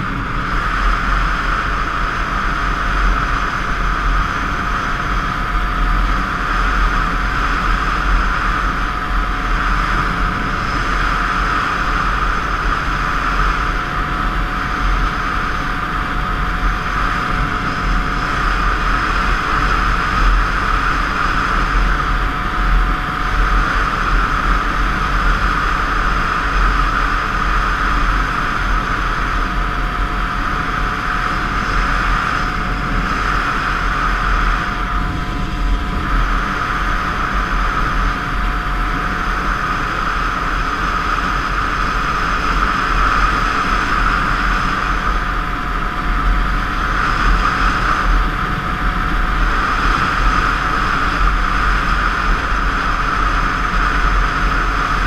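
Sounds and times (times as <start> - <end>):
wind rumbling on camera: 0.0 - 55.0.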